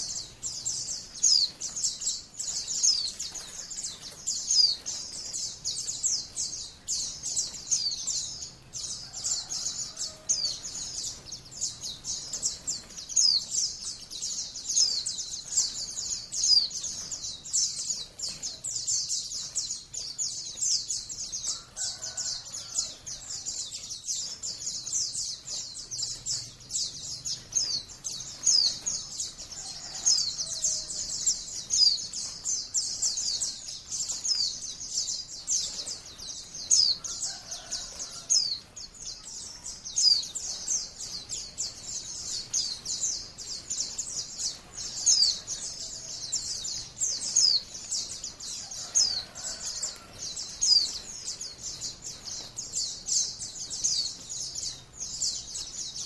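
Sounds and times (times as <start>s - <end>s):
birds twittering: 0.0s - 56.0s.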